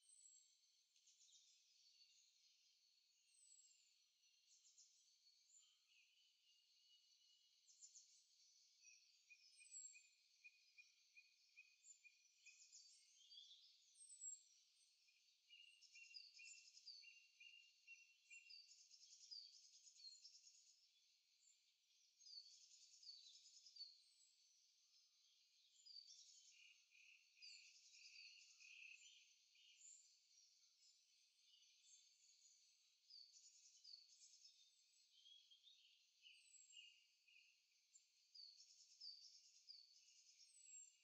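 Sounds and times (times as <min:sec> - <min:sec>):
birdsong: 0:00.0 - 0:41.0.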